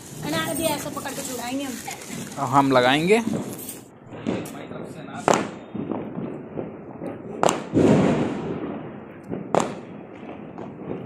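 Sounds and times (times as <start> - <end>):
firecracker bangs: 0.0 - 11.0
firecracker boom: 0.0 - 11.0.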